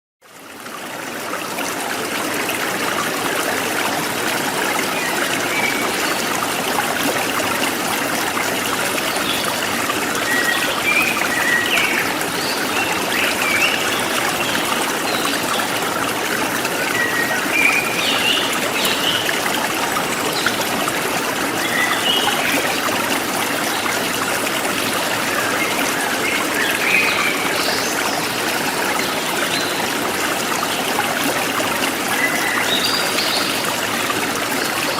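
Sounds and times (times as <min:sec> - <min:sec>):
forest stream flowing: 0:00.2 - 0:34.9.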